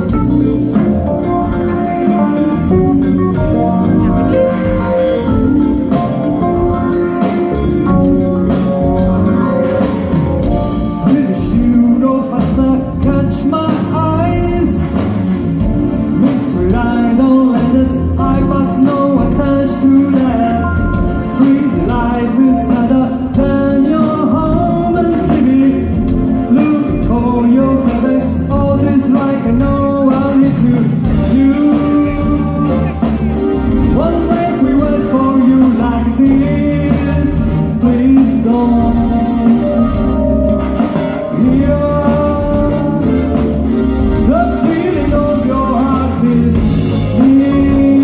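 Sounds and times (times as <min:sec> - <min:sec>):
person singing: 0:00.0 - 0:48.0
rock band playing: 0:00.0 - 0:48.0.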